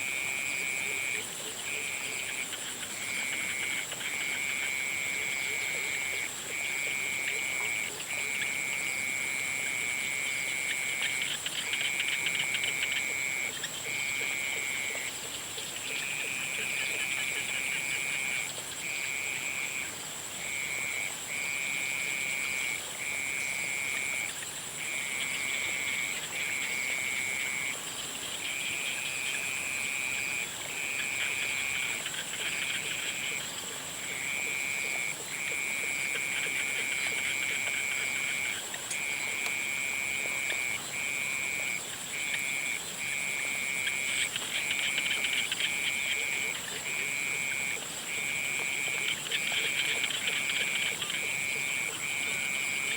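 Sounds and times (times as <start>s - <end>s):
chorus of small frog calls: 0.0s - 52.9s
frogs trilling: 0.0s - 52.9s.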